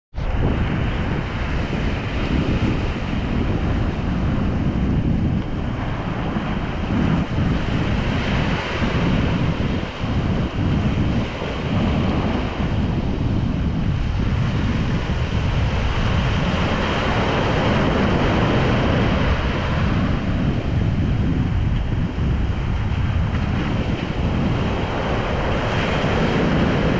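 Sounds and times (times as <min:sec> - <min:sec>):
wind rumbling on microphone: 0:00.1 - 0:26.9
ocean surf breaking on beach: 0:00.2 - 0:26.9.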